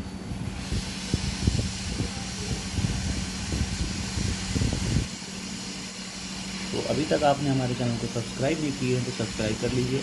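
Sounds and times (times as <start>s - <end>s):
hot-air station hissing: 0.0s - 10.0s.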